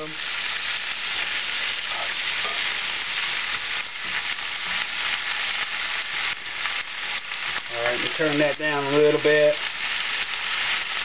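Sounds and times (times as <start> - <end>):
cabbage sizzling in a skillet: 0.0 - 11.0.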